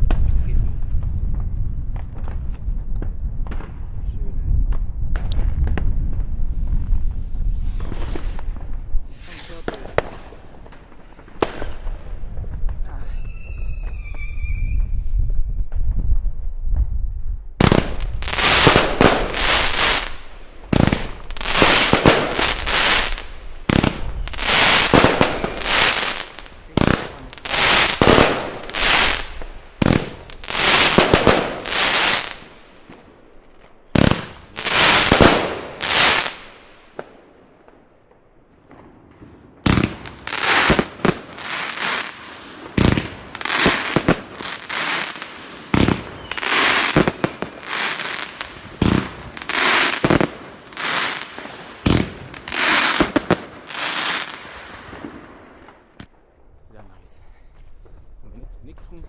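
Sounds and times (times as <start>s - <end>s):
fireworks launching and bursting: 0.0s - 59.0s.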